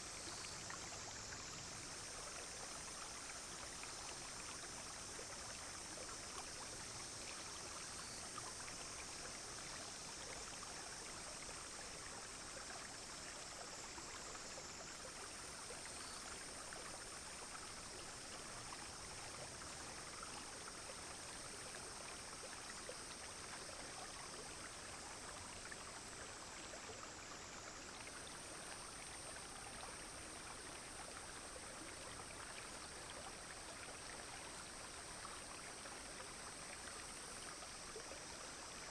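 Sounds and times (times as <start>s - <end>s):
brook flowing over stones: 0.0s - 38.9s
high insect drone: 0.0s - 38.9s.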